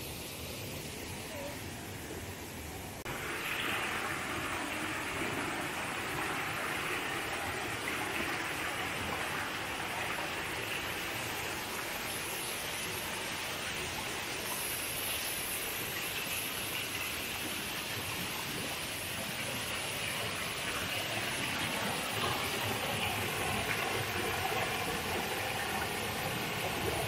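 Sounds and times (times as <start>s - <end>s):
water rushing over stones: 3.0s - 27.0s.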